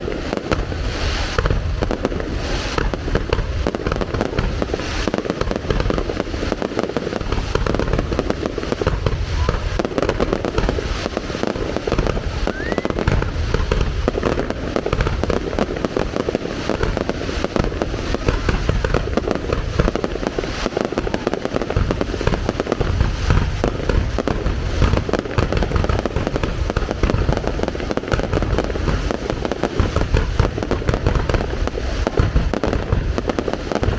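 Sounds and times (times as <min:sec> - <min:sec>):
fireworks bangs and booms: 0:00.0 - 0:33.9
fireworks crackling: 0:00.0 - 0:33.9.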